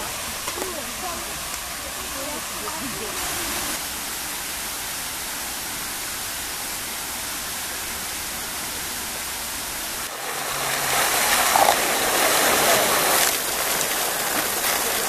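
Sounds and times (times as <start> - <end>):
fountain jets splashing: 0.0 - 15.0.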